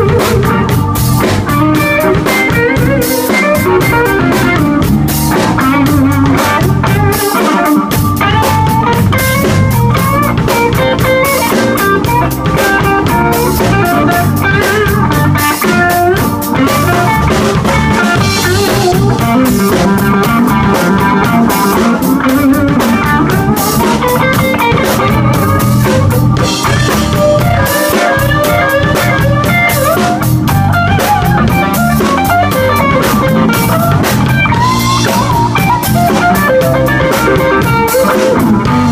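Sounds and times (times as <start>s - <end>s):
drum kit beat: 0.0s - 38.9s
guitar lines: 0.0s - 38.9s.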